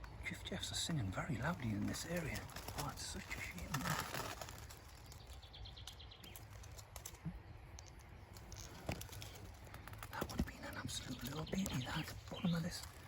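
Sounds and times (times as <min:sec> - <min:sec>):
faint birdsong: 0:00.0 - 0:13.0
faint rustling: 0:01.5 - 0:13.0.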